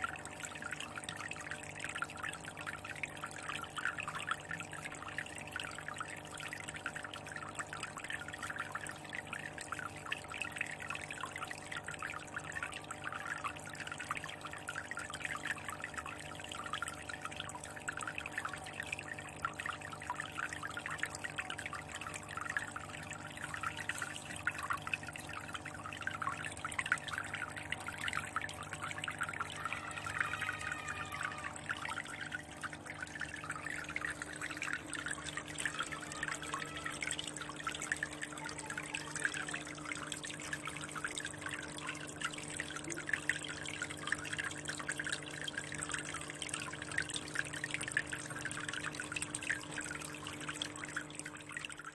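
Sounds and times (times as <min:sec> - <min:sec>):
water trickling into fish tank: 0:00.0 - 0:51.9.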